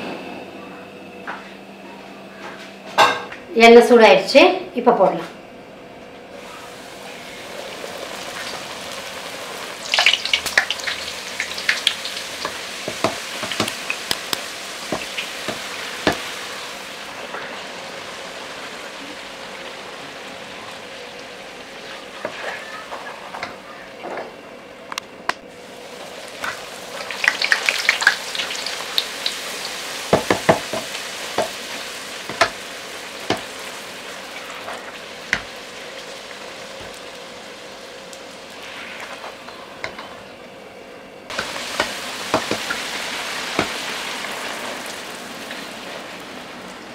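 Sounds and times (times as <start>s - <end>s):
oil sizzling: 6.3s - 24.0s, 25.4s - 46.9s.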